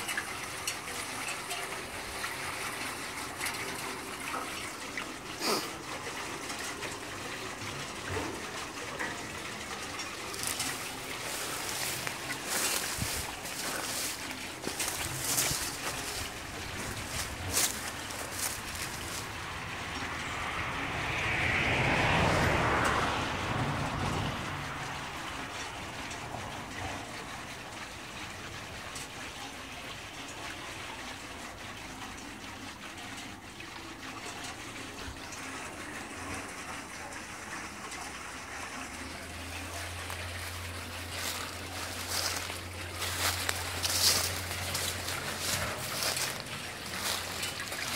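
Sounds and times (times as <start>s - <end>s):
water splashing onto water wheel: 0.0s - 47.9s.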